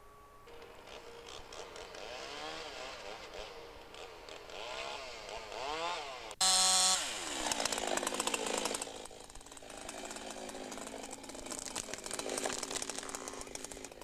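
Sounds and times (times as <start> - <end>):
chainsaw revving and idling: 0.5 - 14.0.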